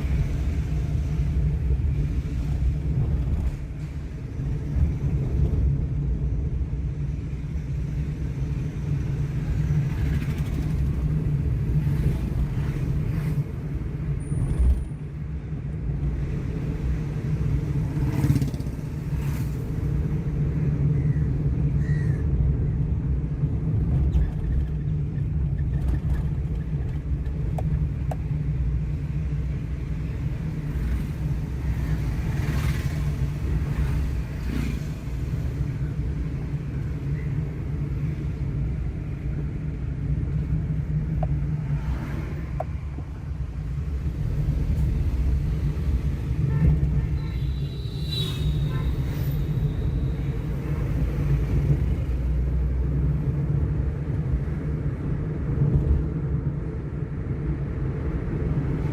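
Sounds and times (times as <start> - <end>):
road and engine rumble in car: 0.0 - 58.9.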